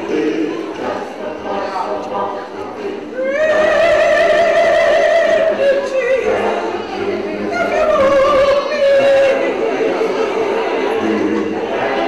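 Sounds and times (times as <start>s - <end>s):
gospel choir singing: 0.0s - 12.0s.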